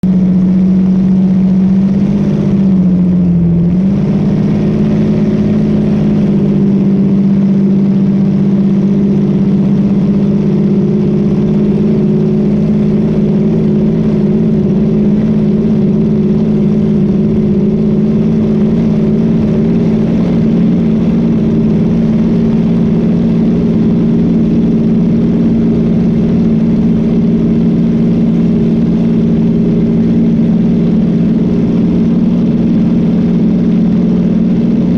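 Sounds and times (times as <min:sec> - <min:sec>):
boat engine running at speed: 0:00.0 - 0:34.9.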